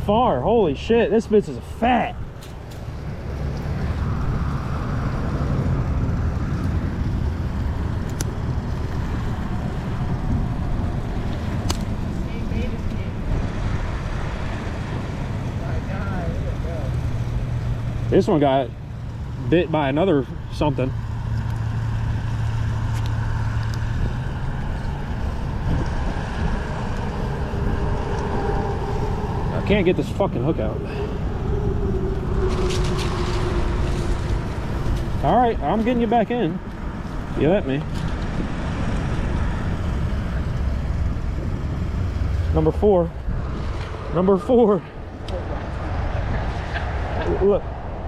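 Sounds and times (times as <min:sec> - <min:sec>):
engine hum: 0:00.0 - 0:48.0
low outdoor rumble: 0:00.0 - 0:48.0.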